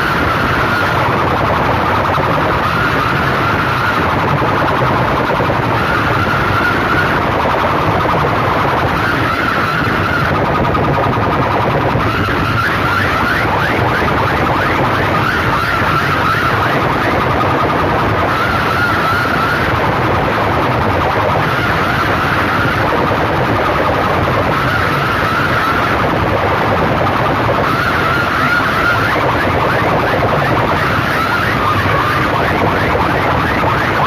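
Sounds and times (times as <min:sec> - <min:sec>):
distorted loudspeaker music: 0:00.0 - 0:34.0.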